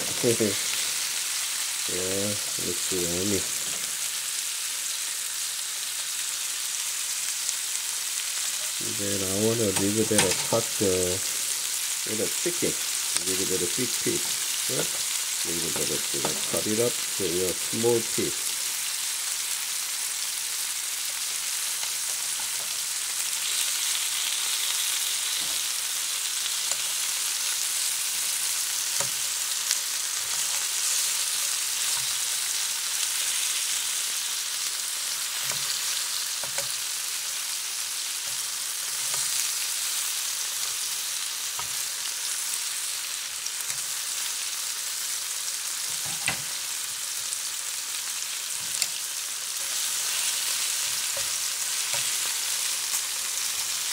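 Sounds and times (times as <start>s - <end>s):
chicken and onions sizzling in oil: 0.0s - 53.9s.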